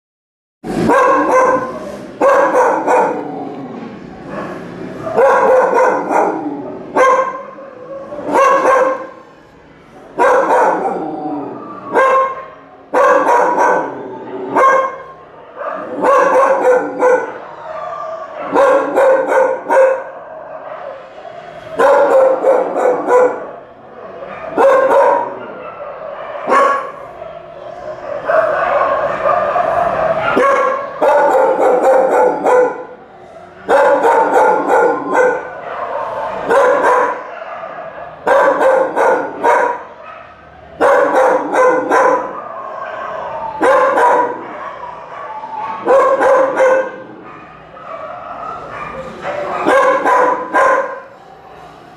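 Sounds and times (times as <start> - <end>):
dog barking and yelping: 0.7 - 3.5, 4.2 - 9.3, 10.1 - 51.7
dog drawn-out cry: 0.7 - 3.5, 10.2 - 51.7.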